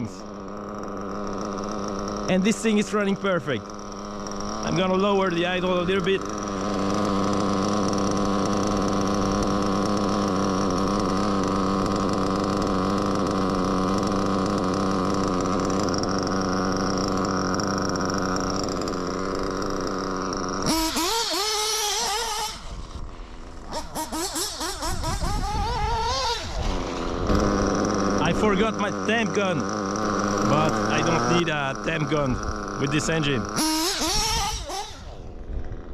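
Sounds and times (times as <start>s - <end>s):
model engine idling: 0.0s - 35.9s.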